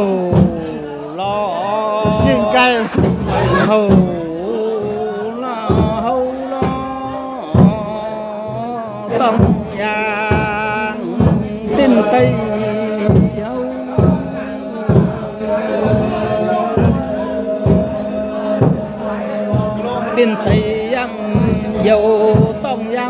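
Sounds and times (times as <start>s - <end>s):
person singing: 0.0s - 23.0s
drum thumps: 0.2s - 0.8s, 1.9s - 23.0s.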